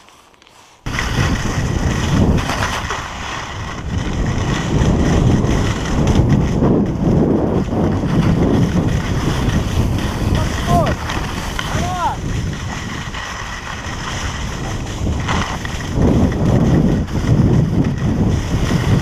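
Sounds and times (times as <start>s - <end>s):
skis scraping on packed snow: 0.0s - 19.0s
wind rushing over microphone: 0.8s - 19.0s.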